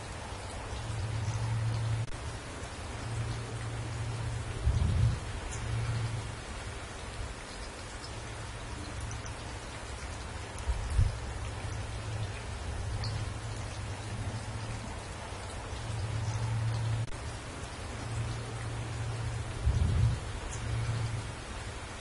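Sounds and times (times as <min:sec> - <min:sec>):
rain falling on trees: 0:00.0 - 0:22.0.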